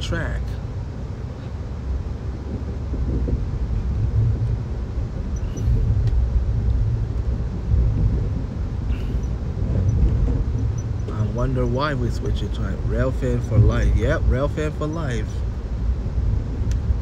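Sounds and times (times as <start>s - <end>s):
train rumble from inside: 0.0s - 17.0s.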